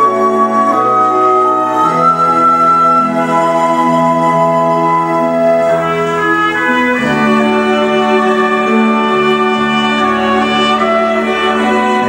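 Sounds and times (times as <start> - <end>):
orchestral strings sustained chords: 0.0 - 12.0.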